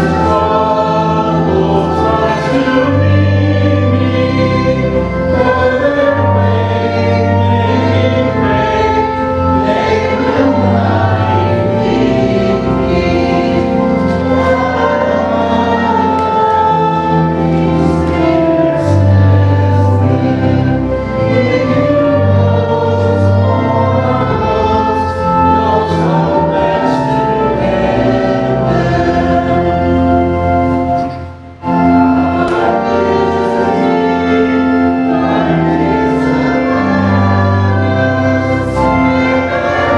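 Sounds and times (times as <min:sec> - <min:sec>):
congregation singing a hymn: 0:00.0 - 0:39.9
organ accompaniment: 0:00.0 - 0:39.9.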